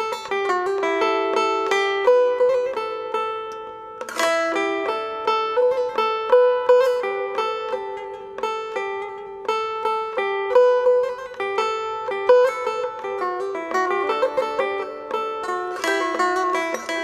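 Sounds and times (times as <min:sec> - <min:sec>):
plucked-string melody: 0:00.0 - 0:17.0.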